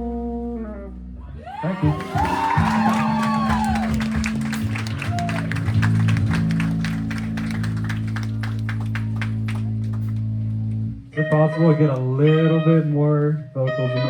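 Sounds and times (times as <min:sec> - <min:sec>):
held bass notes: 0:00.0 - 0:14.0.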